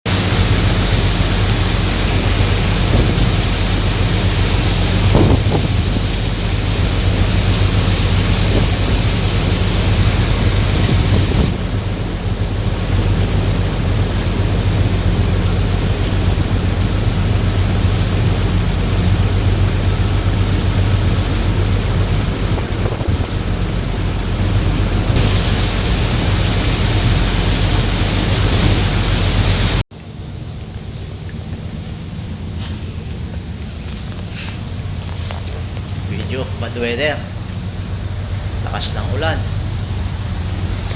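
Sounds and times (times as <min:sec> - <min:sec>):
heavy rain: 0:00.1 - 0:40.9
low machinery hum: 0:00.1 - 0:40.9
wind: 0:00.1 - 0:40.9.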